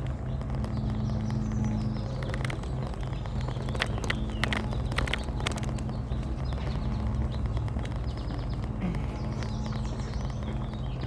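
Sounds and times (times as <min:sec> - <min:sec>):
songbirds singing: 0:00.0 - 0:11.0
steady low rumble: 0:00.0 - 0:11.0.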